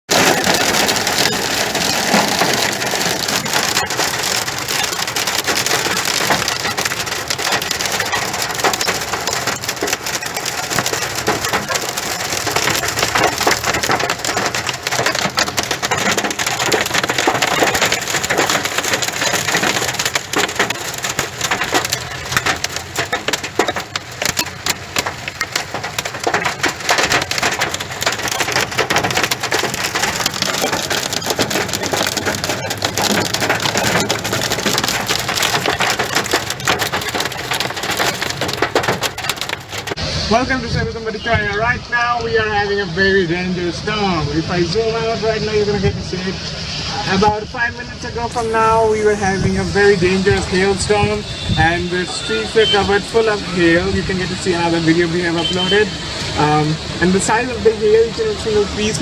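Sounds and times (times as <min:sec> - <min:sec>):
hail clattering: 0:00.1 - 0:41.0, 0:48.3 - 0:59.0
rain hissing: 0:00.1 - 0:59.0.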